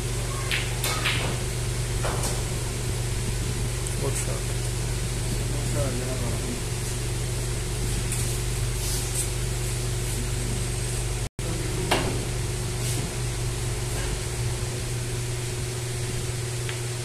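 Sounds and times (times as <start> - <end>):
electric fans humming: 0.0 - 17.0
low electrical hum: 0.0 - 17.0.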